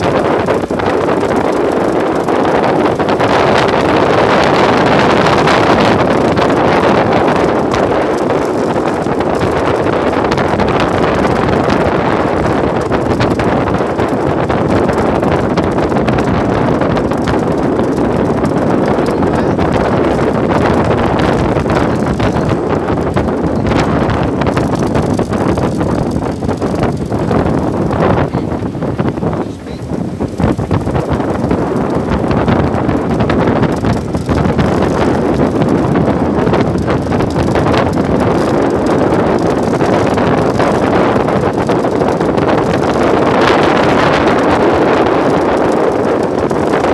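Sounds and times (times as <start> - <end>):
boat running noise: 0.0 - 46.9
wind buffeting microphone: 0.0 - 46.9.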